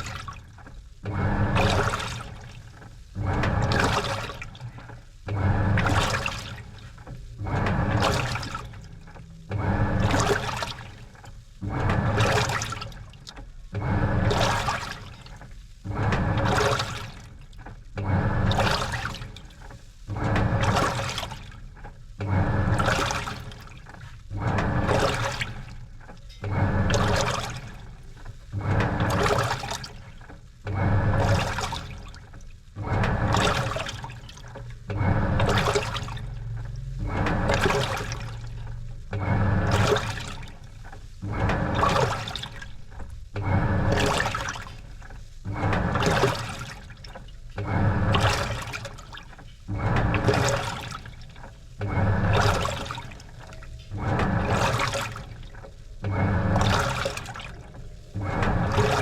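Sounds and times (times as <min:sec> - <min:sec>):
low motor hum: 0:00.0 - 0:15.2, 0:15.8 - 0:59.0
water sloshing in washing machine: 0:00.0 - 0:59.0.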